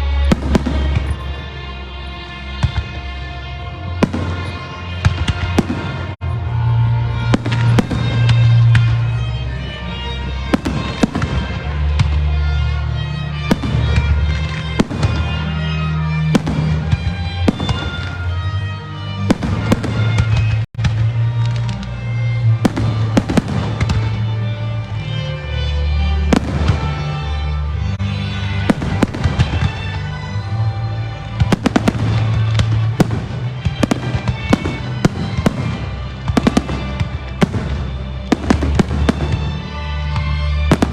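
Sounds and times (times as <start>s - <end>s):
firework bangs and crackles: 0.0s - 40.9s.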